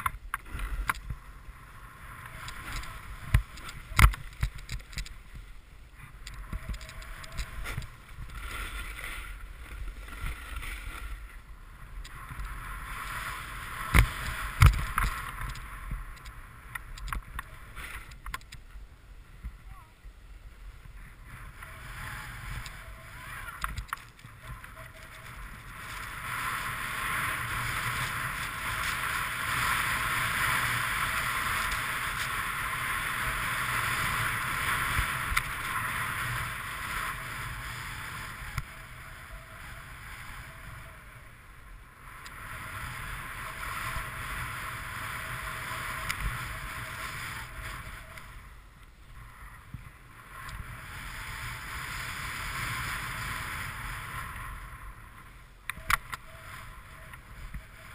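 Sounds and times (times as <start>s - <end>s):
snowboard scraping over snow: 0.0s - 18.2s, 19.2s - 57.9s.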